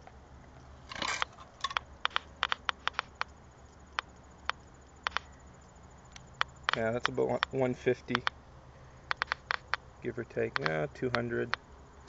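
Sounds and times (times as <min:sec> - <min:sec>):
geiger counter clicking: 0:01.2 - 0:08.4, 0:09.0 - 0:11.7.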